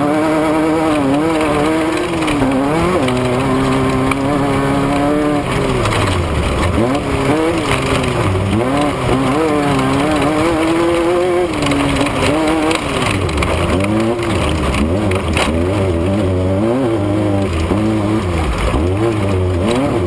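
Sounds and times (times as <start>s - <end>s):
race vehicle engine revving: 0.0s - 20.0s.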